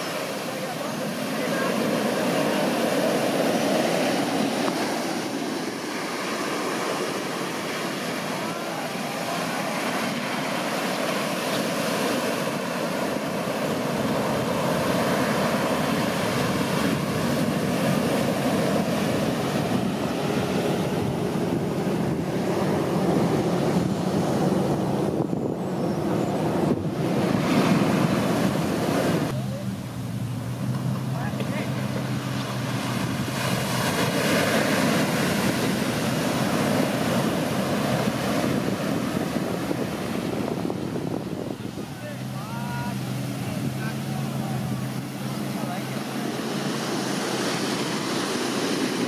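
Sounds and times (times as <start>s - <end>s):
foamy water washing up sand: 0.0s - 49.0s
ocean waves breaking: 0.0s - 49.0s
wind on microphone: 0.0s - 49.0s.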